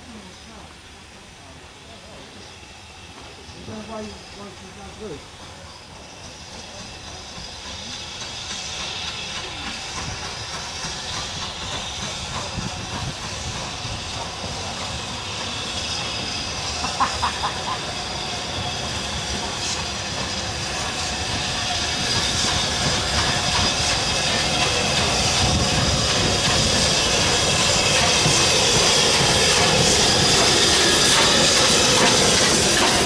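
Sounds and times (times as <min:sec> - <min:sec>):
steam hissing: 0:00.0 - 0:33.0
steam locomotive approaching: 0:00.0 - 0:33.0.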